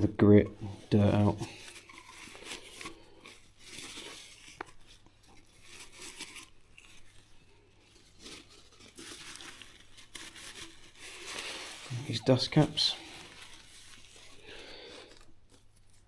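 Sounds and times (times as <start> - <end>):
faint wiping and rubbing: 0.0 - 16.0.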